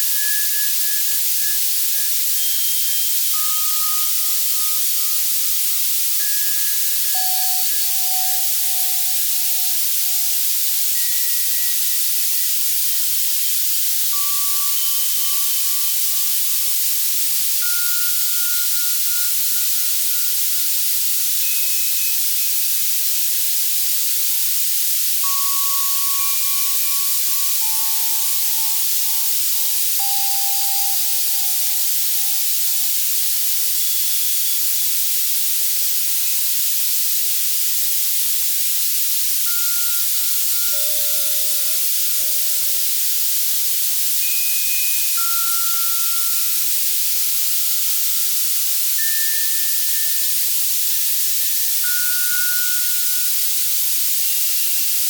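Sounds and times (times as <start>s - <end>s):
soft bell tones: 0.0s - 23.3s, 25.2s - 34.3s, 39.5s - 54.0s
white noise hiss: 0.0s - 55.0s.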